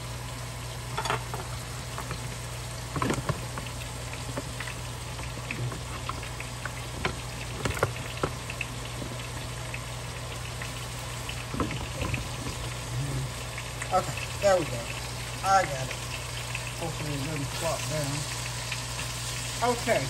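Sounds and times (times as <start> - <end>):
meat and onion sizzling in a skillet: 0.0 - 20.0.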